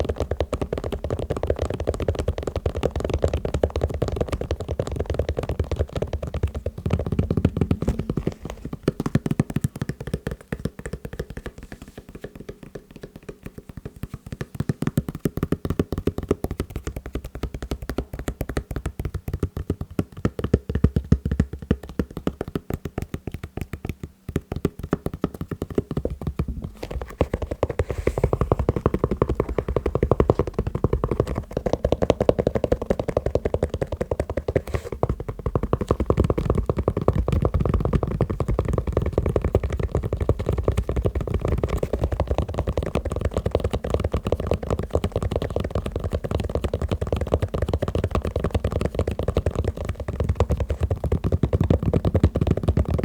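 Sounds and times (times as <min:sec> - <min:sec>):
fast tapping on sneakers: 0:00.0 - 0:53.0.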